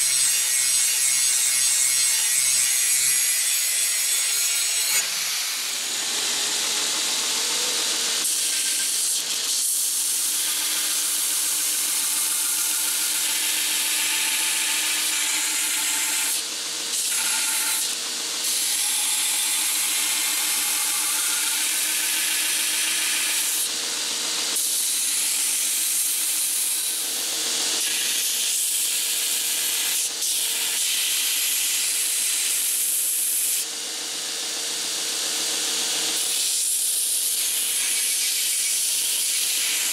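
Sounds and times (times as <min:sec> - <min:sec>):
belt grinder grinding steel: 0:00.0 - 0:33.8, 0:35.9 - 0:39.9.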